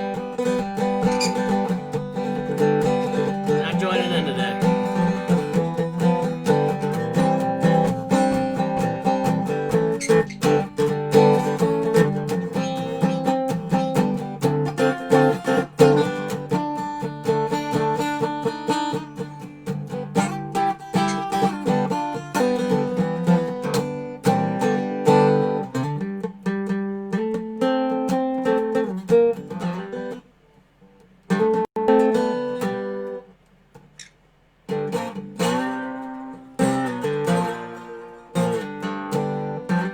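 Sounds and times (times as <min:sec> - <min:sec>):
resonator guitar blues playing: 0:00.0 - 0:30.2, 0:31.3 - 0:33.3, 0:34.7 - 0:39.9.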